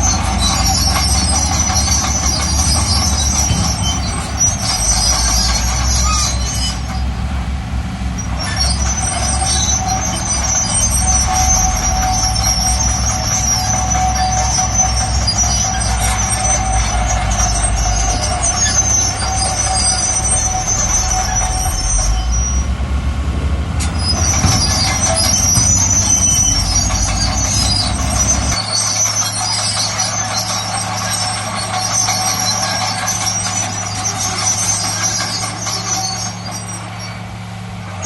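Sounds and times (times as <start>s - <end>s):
high metallic squeal: 0.0s - 7.2s, 8.1s - 22.8s, 23.8s - 38.0s
diesel machinery engine rumble: 0.0s - 38.0s.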